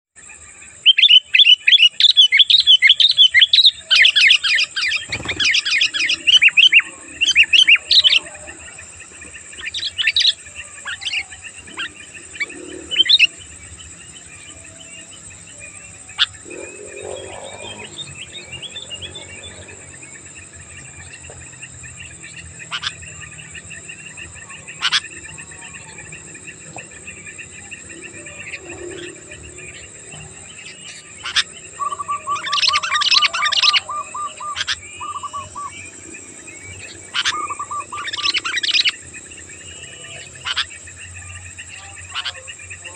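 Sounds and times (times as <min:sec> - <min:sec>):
birds chirping: 0:00.2 - 0:42.9
steady high-pitched tone: 0:03.7 - 0:42.9.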